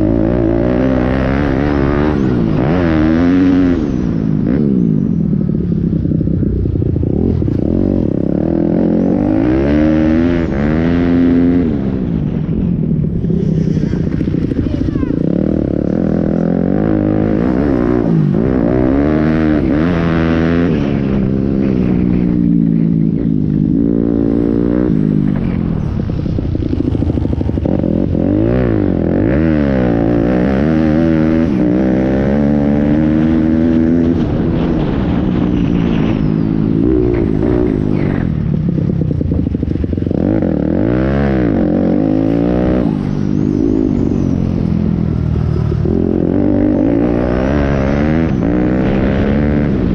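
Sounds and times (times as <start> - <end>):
motorbike engines revving: 0.0 - 49.9.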